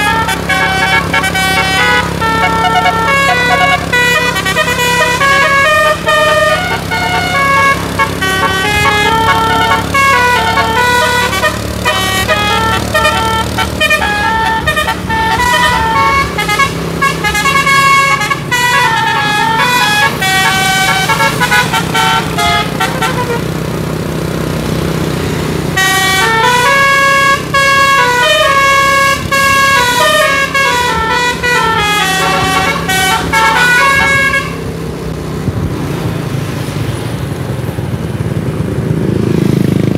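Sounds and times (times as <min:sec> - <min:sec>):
bus musical air horn: 0:00.0 - 0:23.6, 0:25.4 - 0:34.8
bus engine running: 0:00.0 - 0:39.9.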